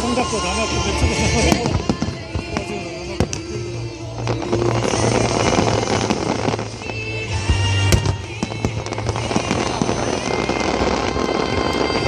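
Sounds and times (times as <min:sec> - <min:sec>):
fireworks bursting and crackling: 0:00.0 - 0:12.0
loud music: 0:00.0 - 0:12.0.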